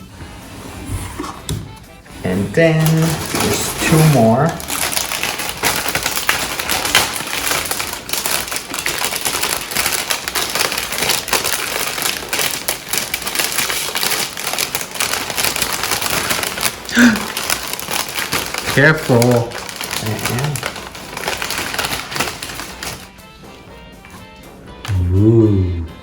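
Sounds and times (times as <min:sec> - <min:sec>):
packing material rustling and crinkling: 0:02.0 - 0:23.1.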